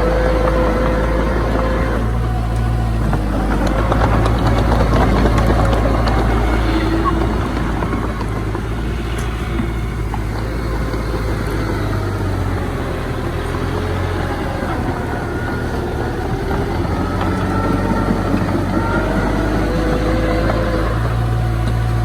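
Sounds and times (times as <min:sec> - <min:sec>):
faint drawn-out squealing: 0:00.0 - 0:22.0
heavy diesel machinery humming: 0:00.0 - 0:22.0.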